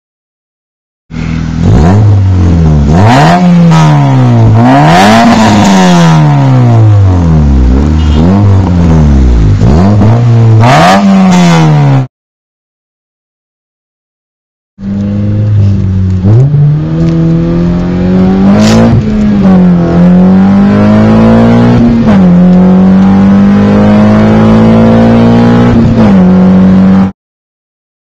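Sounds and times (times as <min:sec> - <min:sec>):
car engine revving: 0:01.1 - 0:12.1, 0:14.8 - 0:27.1.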